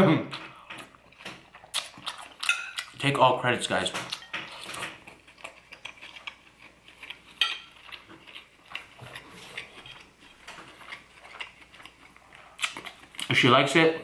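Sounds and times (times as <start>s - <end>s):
soft chewing: 0.3s - 3.1s, 3.7s - 13.4s.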